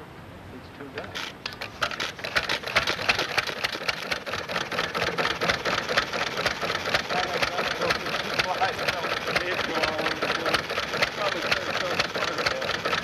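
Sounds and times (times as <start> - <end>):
stationary engine clattering: 1.0 - 13.0.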